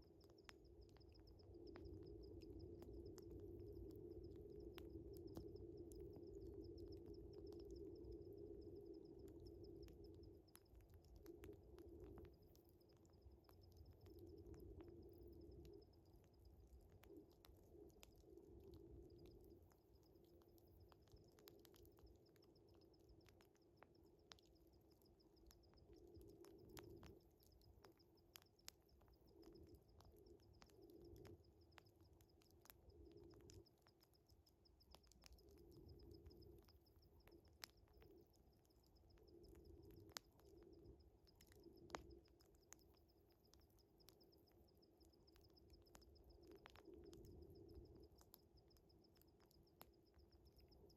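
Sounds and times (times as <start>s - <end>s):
wood fire crackling: 0.0s - 38.2s, 38.9s - 50.9s.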